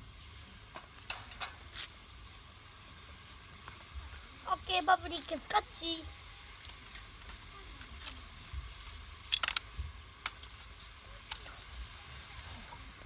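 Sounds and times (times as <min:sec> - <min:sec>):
campfire crackling: 0:00.0 - 0:13.0
food sizzling in a pot: 0:00.0 - 0:13.0.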